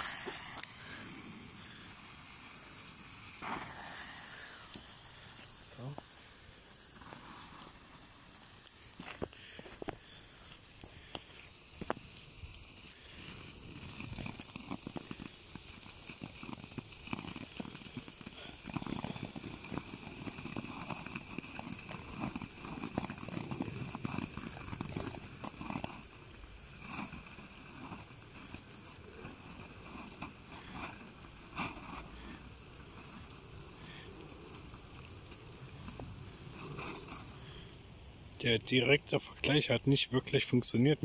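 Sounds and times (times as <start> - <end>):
firework fountains hissing and crackling: 0.0 - 41.0.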